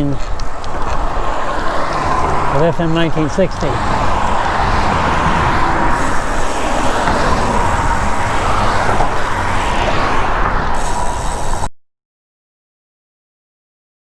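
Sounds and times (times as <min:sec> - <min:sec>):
passing road traffic: 0:00.0 - 0:11.7
wind rumble on microphone: 0:00.0 - 0:11.7.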